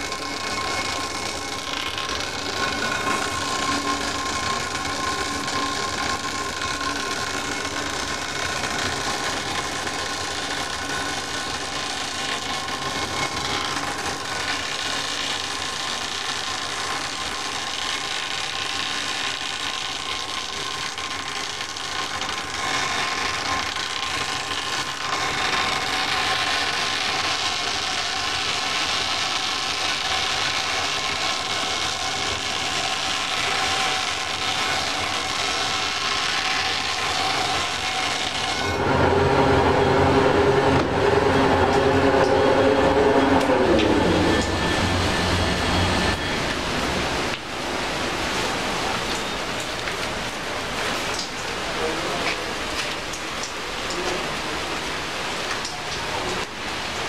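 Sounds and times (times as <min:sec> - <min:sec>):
tyre cutting machine running: 0:00.0 - 0:57.0.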